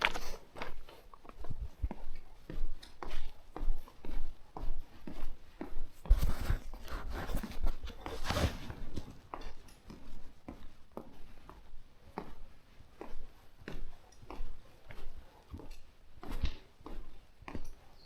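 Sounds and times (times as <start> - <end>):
scuffing noise: 0.0 - 18.0.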